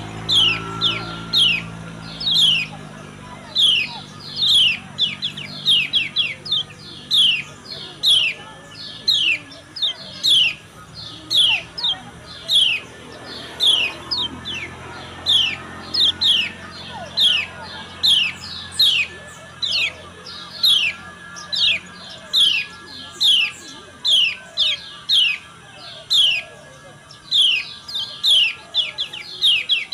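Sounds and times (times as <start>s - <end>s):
bird chirping: 0.0s - 29.9s.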